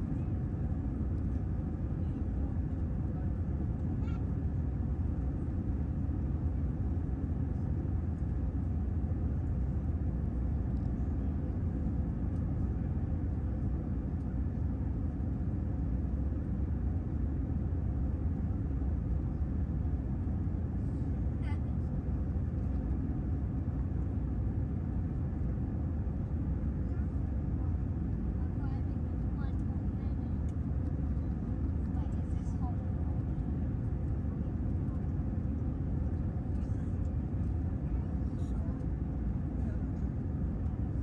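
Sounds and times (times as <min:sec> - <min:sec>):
airplane cabin engine rumble: 0:00.0 - 0:41.0.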